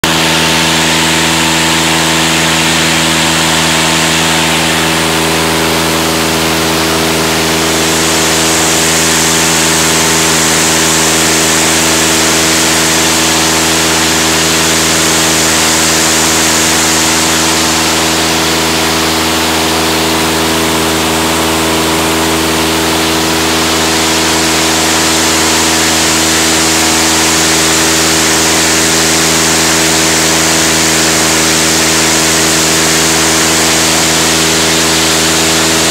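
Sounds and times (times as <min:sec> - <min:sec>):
aircraft engine droning: 0:00.0 - 0:35.9.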